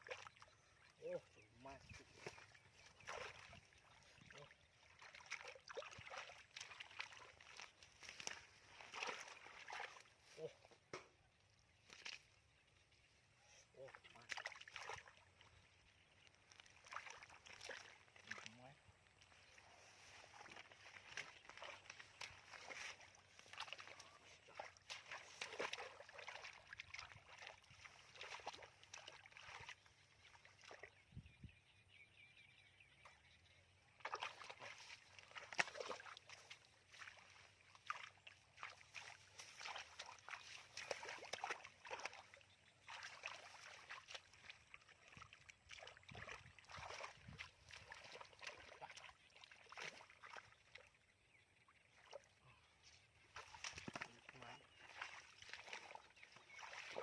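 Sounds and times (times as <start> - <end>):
muddy water sloshing: 0.0 - 31.1, 32.8 - 57.0.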